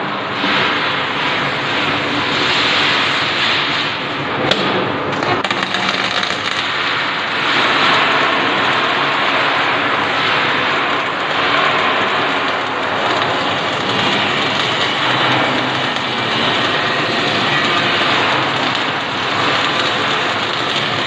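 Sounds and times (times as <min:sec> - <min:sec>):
welding arc crackling: 0:00.0 - 0:21.0.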